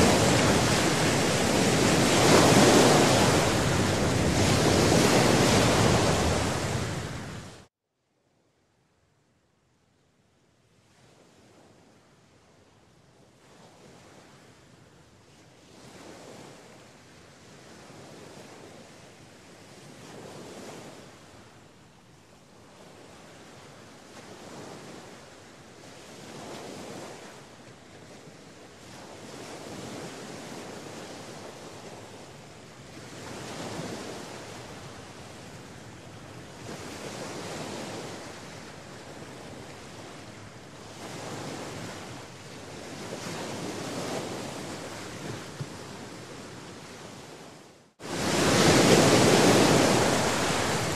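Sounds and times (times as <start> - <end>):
waves breaking on shore: 0.0 - 7.7, 10.8 - 50.9.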